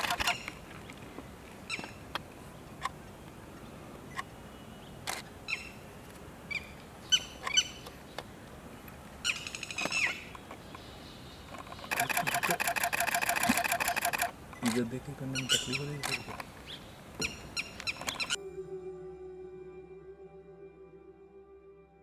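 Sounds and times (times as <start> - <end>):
birds chirping: 0.0 - 18.4.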